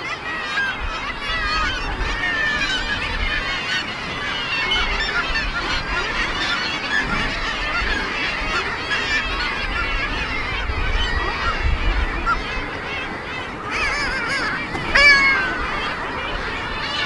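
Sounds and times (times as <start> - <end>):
seabirds calling: 0.0 - 17.0.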